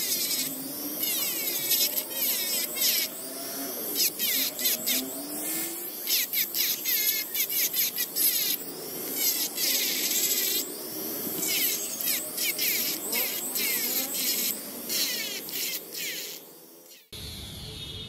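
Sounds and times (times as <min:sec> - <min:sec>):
rotary tool sanding metal: 0:00.0 - 0:17.1.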